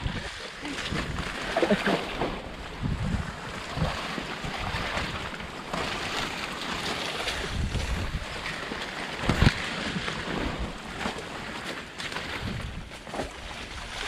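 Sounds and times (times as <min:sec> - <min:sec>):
wind buffeting microphone: 0:00.0 - 0:11.6, 0:12.2 - 0:14.0
water sloshing and splashing: 0:00.0 - 0:14.0.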